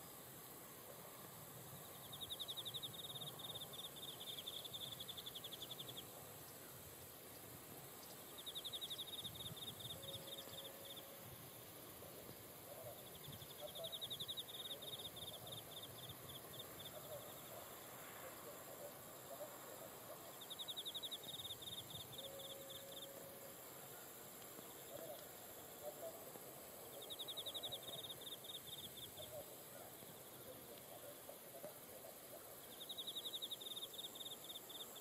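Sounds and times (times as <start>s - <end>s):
high-pitched insect whine: 0.0s - 35.0s
rapid pulsed insect chirping: 0.0s - 35.0s.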